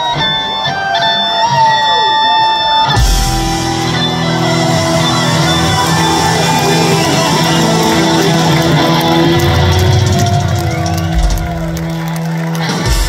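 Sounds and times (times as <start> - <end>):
amplified electric guitars: 0.0 - 13.0.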